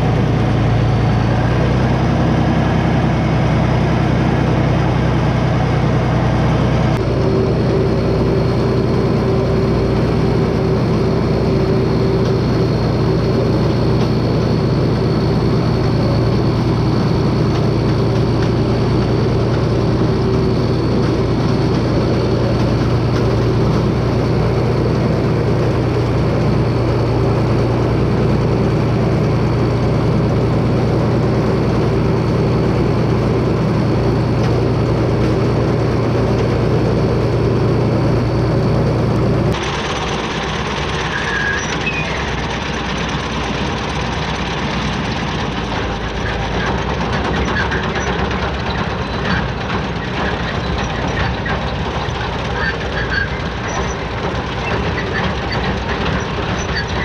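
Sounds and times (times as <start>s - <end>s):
mower high whine: 0.0s - 57.0s
tractor engine drone: 0.0s - 57.0s.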